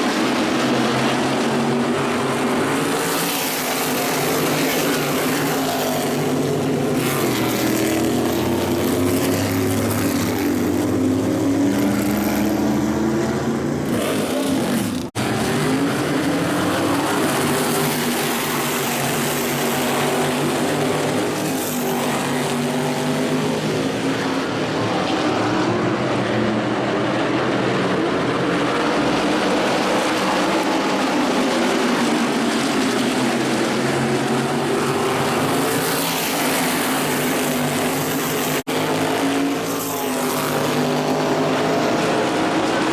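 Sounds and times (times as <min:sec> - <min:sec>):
race car engines passing: 0:00.0 - 0:42.9.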